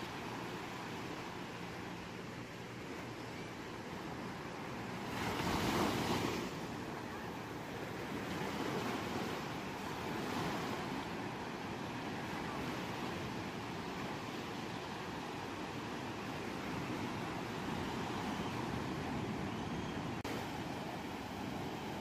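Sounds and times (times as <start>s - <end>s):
ocean waves washing onto shore: 0.0s - 22.0s.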